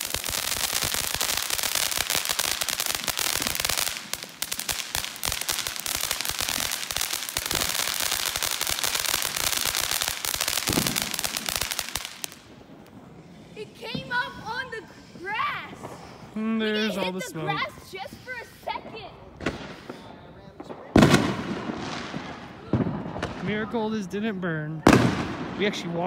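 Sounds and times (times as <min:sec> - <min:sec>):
firework fountain crackling: 0:00.0 - 0:26.0.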